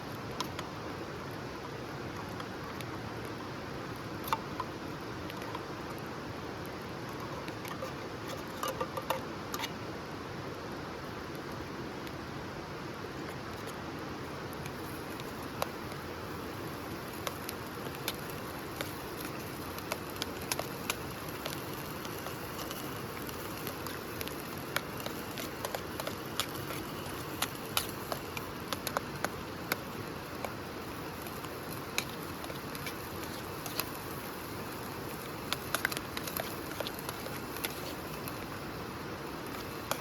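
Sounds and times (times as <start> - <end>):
campfire crackling and popping: 0.0 - 9.8, 13.0 - 40.0.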